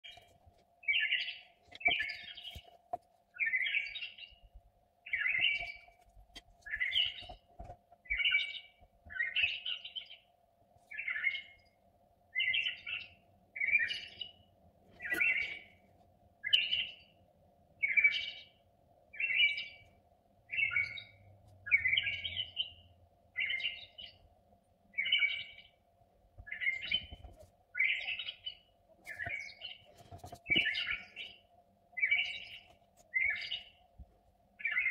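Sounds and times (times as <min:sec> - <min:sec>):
bird chirping: 0:00.0 - 0:10.3, 0:10.9 - 0:17.2, 0:17.8 - 0:24.3, 0:24.9 - 0:25.8, 0:26.4 - 0:34.9.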